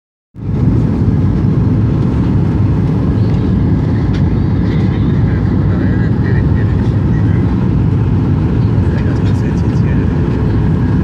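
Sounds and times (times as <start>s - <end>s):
airflow over fuselage: 0.4s - 11.0s
jet engines: 0.4s - 11.0s.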